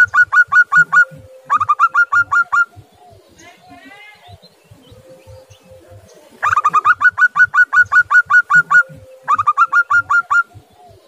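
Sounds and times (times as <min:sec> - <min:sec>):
dove calling: 0:00.0 - 0:11.0.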